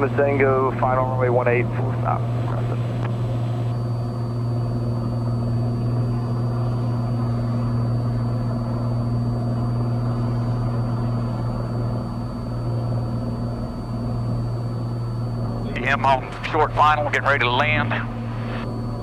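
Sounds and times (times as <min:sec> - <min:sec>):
airplane engine and propeller droning: 0:00.0 - 0:19.0.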